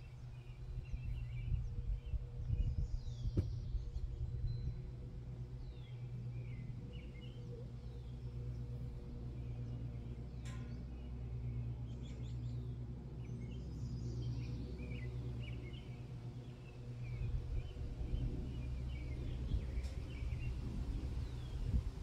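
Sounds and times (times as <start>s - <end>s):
low hum and rumble: 0.0s - 22.0s
small birds chirping: 0.0s - 22.0s.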